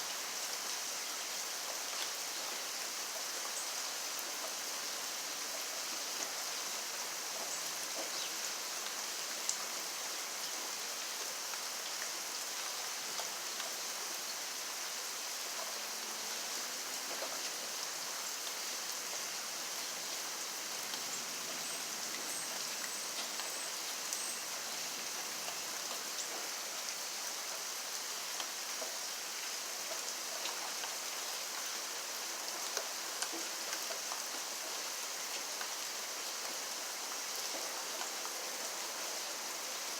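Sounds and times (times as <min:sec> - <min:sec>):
steady rainfall: 0:00.0 - 0:39.9
rain drops ticking: 0:05.4 - 0:14.8, 0:15.4 - 0:39.9.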